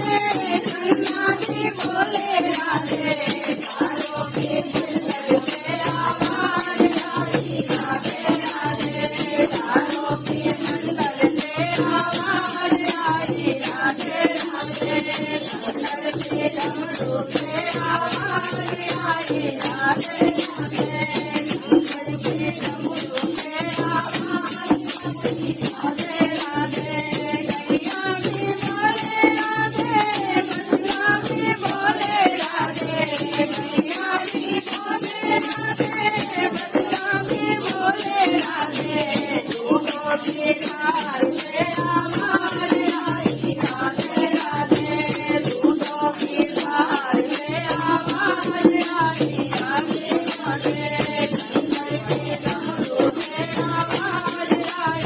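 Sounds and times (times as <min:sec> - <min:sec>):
person singing devotional song: 0:00.0 - 0:55.0
shaker rattle beat: 0:00.0 - 0:55.0.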